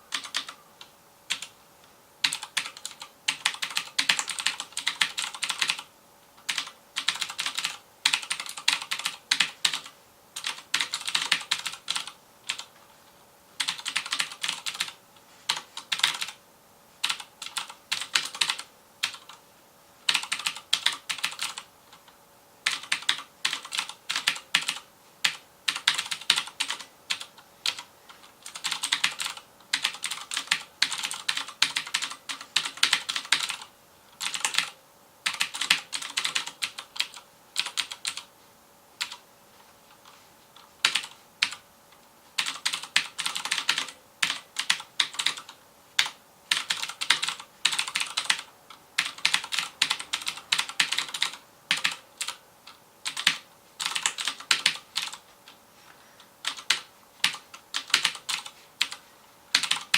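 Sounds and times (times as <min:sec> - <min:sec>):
clicky mechanical keyboard typing: 0:00.1 - 0:01.6, 0:02.2 - 0:12.7, 0:13.6 - 0:16.4, 0:17.0 - 0:19.4, 0:20.1 - 0:38.3, 0:39.0 - 0:39.2, 0:40.0 - 0:41.6, 0:42.4 - 0:55.6, 0:56.4 - 0:59.9.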